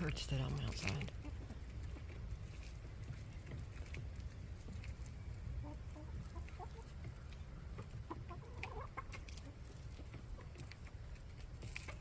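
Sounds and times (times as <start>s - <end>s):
hens clucking softly: 0.8s - 12.0s.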